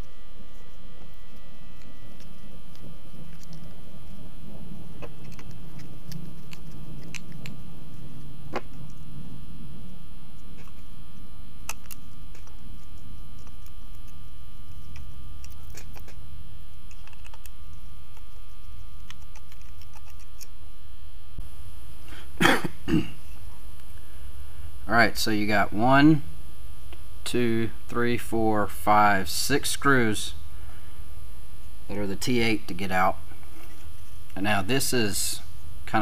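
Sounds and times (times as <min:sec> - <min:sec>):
steady background hum: 0:00.0 - 0:36.0.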